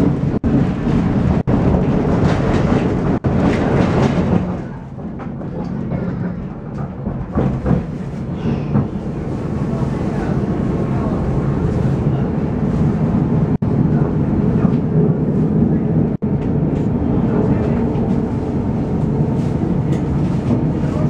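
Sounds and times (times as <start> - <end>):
tram wheels rumbling on rail: 0.0 - 21.0.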